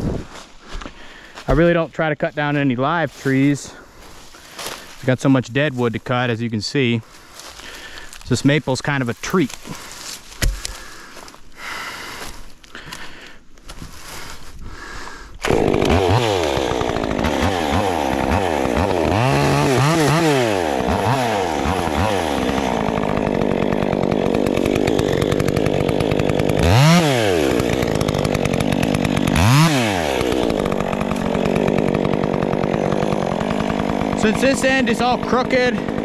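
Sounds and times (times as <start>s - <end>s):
chainsaw revving and cutting wood: 2.8s - 36.0s.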